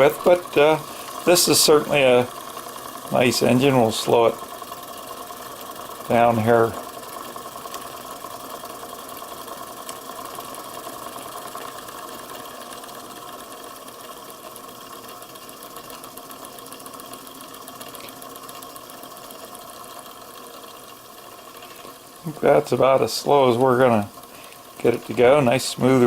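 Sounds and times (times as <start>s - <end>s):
toy steam engine clattering: 0.0s - 26.0s.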